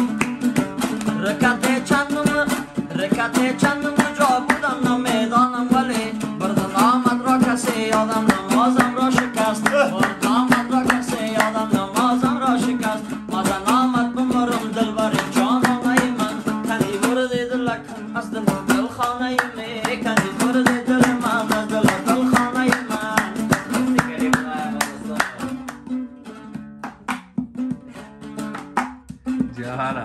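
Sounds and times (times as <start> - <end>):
plucked lute melody: 0.0 - 30.0.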